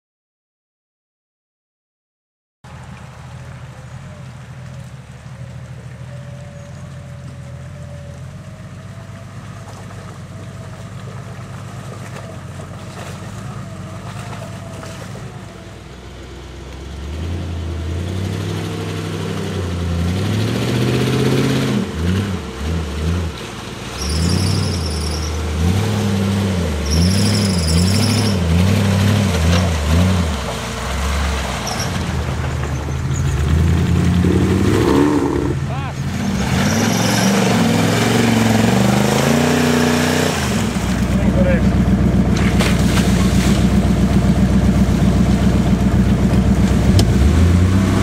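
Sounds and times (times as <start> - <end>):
car engine idling and revving: 2.6 - 48.0.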